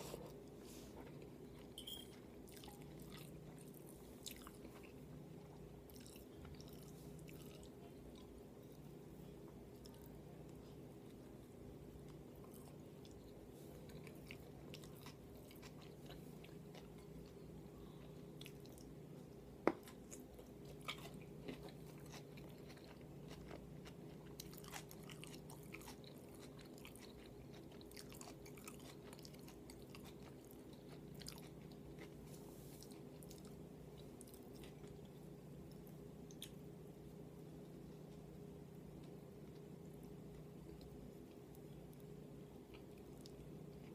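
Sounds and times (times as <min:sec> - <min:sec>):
person chewing: 0:00.0 - 0:08.9, 0:12.0 - 0:36.6, 0:38.9 - 0:43.9
steady low hum: 0:00.0 - 0:43.9.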